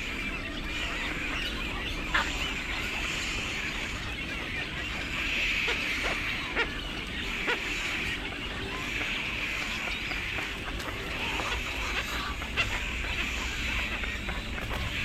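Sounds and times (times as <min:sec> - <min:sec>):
honking bird calls: 0:00.0 - 0:15.0
steady background haze: 0:00.0 - 0:15.0.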